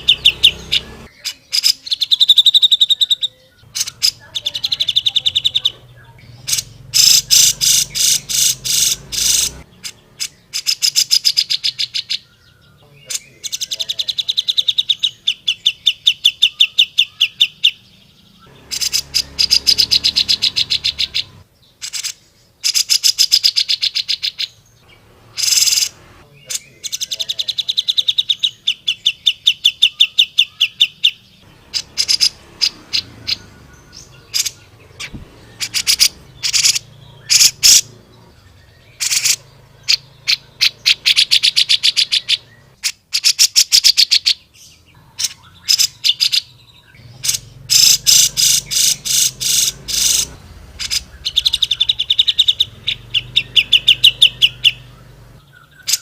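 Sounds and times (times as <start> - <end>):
bird calling in rattling trills: 0.0 - 17.8, 18.5 - 56.0.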